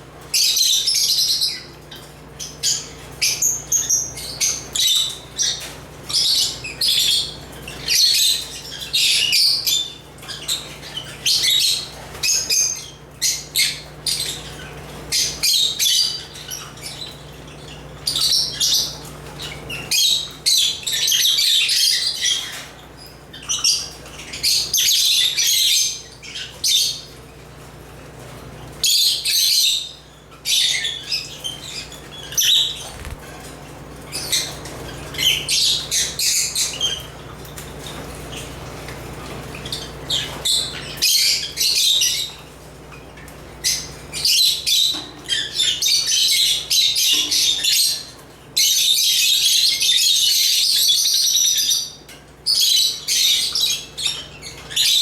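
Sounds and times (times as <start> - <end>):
lovebirds chirping and chattering: 0.2 - 55.0.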